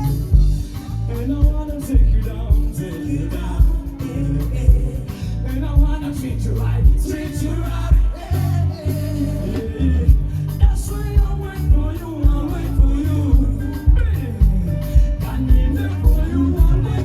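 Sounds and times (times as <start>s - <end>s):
person singing: 0.0s - 17.0s
upbeat pop music: 0.0s - 17.0s.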